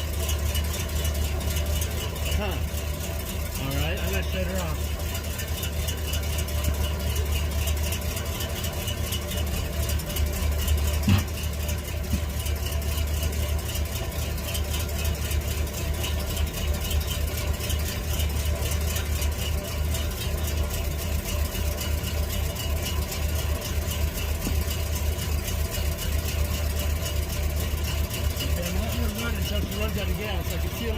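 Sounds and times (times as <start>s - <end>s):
bus engine idling: 0.0s - 30.9s.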